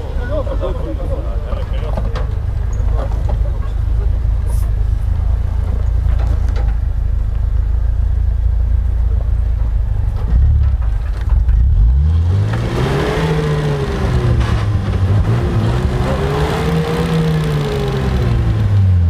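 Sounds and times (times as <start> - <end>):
engine low rumble: 0.0 - 19.0.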